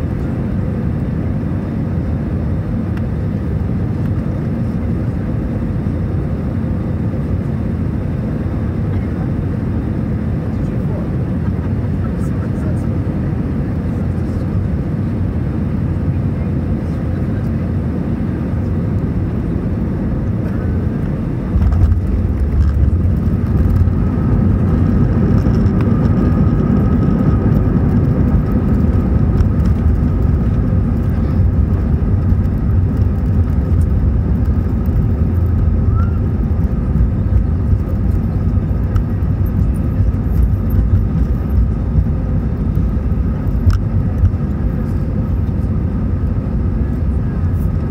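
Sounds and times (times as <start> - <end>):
jet engine and airflow noise: 0.0 - 47.9.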